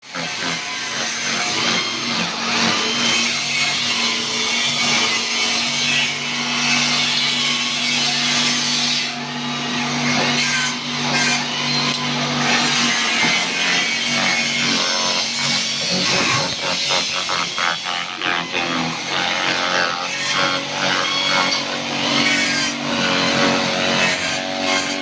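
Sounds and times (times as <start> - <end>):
chopping machine rasping: 0.0 - 25.0.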